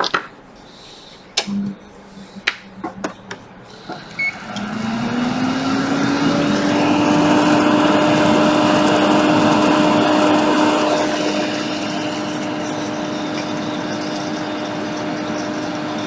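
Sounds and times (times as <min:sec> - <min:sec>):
hot air blower humming: 0:00.4 - 0:16.0.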